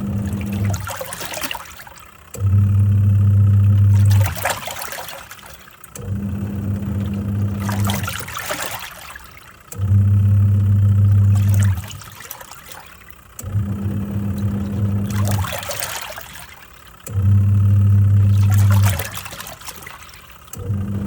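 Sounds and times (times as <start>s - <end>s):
water sloshing and trickling: 0.0s - 2.7s, 3.6s - 10.1s, 11.0s - 20.9s
washing machine motor humming: 0.0s - 21.0s.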